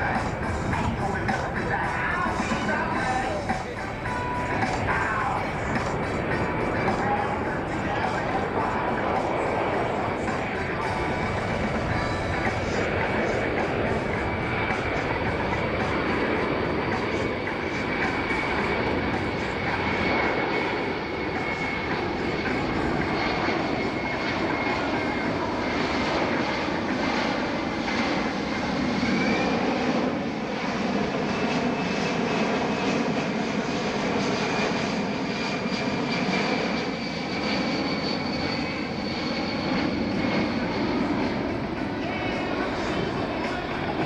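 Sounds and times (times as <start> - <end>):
jet engines rumbling with whine: 0.0 - 44.0.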